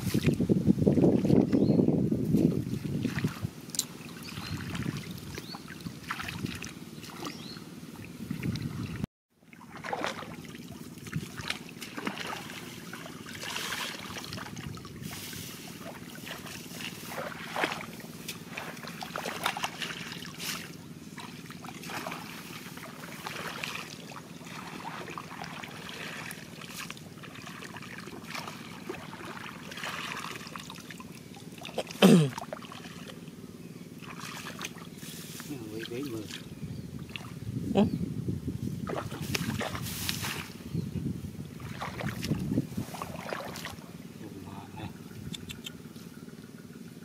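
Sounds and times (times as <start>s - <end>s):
muddy water splashing: 0.0s - 37.9s, 38.7s - 40.7s, 41.3s - 46.4s.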